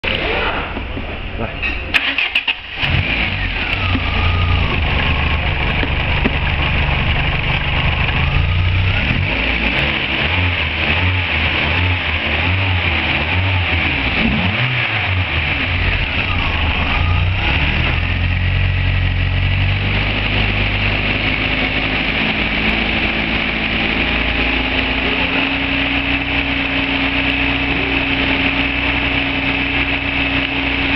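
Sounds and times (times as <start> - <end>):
car engine idling: 0.8 - 30.9.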